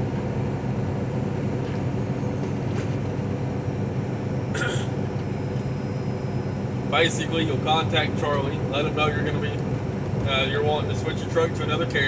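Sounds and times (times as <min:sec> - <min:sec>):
road noise inside cab: 0:00.0 - 0:12.0
truck engine drone: 0:00.0 - 0:12.0.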